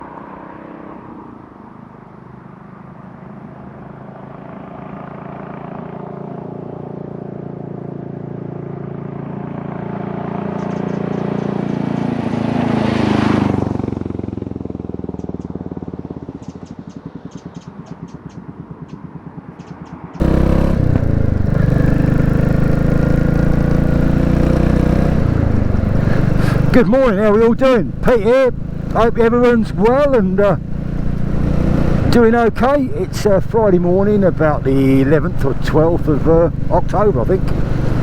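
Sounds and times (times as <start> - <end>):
motorcycle engine running: 4.4 - 12.8, 13.4 - 38.0.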